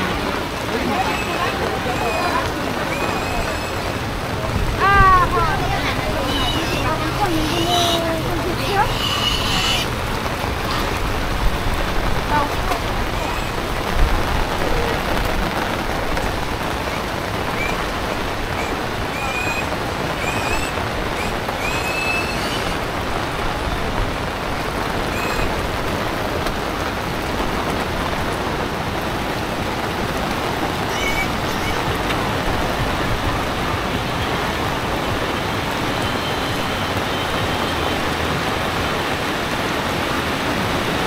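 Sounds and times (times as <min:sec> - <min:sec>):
torrential rain: 0:00.0 - 0:41.0.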